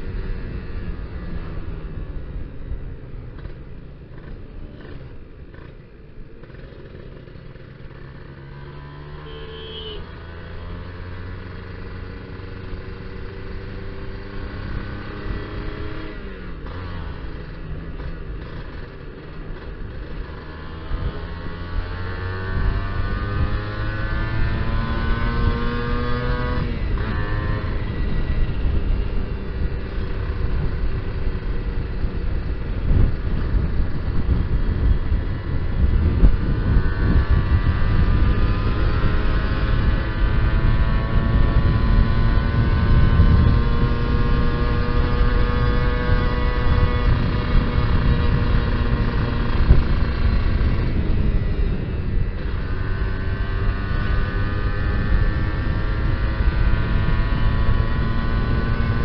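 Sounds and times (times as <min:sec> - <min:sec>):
motorcycle engine revving: 0:03.1 - 0:59.0
wind noise on microphone: 0:11.0 - 0:59.0.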